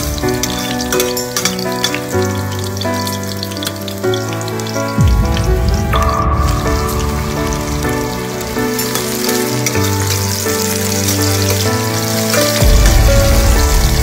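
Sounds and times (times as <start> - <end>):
background music held notes: 0.0 - 14.0
ginger sizzling in hot oil: 0.0 - 14.0.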